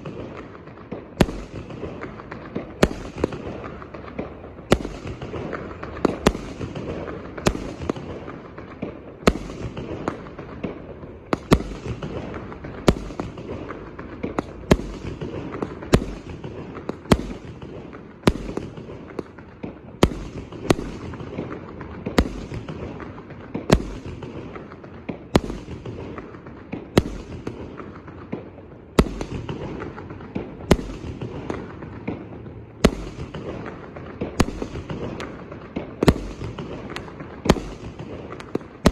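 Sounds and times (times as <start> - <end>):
firework hissing and crackling: 0.0 - 28.1, 28.9 - 38.9
firework bangs: 0.0 - 38.9.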